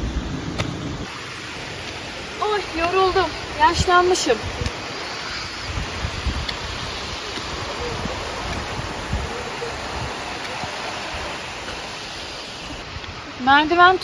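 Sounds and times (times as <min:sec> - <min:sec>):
creek rushing: 0:00.0 - 0:14.0
wind buffeting microphone: 0:00.0 - 0:14.0.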